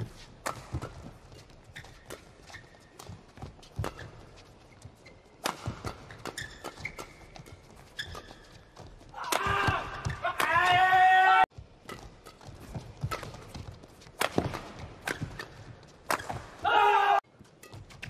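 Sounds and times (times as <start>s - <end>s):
rackets hitting shuttlecock: 0.0s - 4.6s, 5.3s - 8.5s, 9.2s - 10.8s, 11.6s - 16.9s
shoes squeaking on court: 0.0s - 10.3s, 11.6s - 16.6s.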